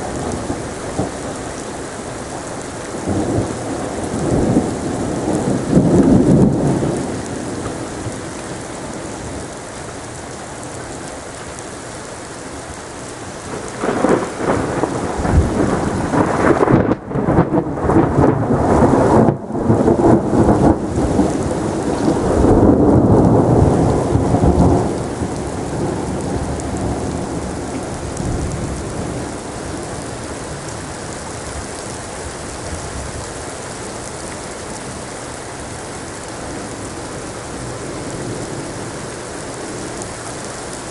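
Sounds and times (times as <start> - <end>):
crackling thunder rumbling: 0.0 - 9.6, 13.5 - 35.1, 36.2 - 40.9
heavy rain hissing: 0.0 - 40.9.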